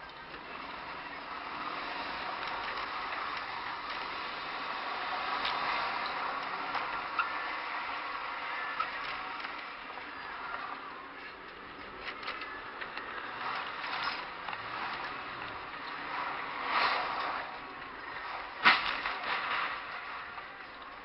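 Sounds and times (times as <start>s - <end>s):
road and cabin noise in car: 0.0s - 21.0s.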